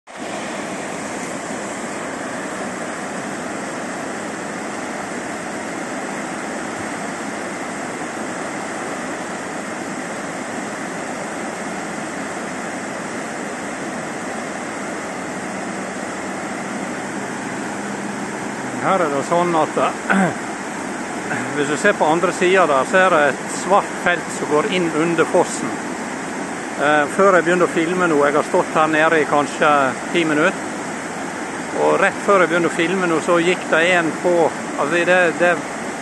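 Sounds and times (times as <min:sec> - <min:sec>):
waterfall rushing: 0:00.1 - 0:36.0.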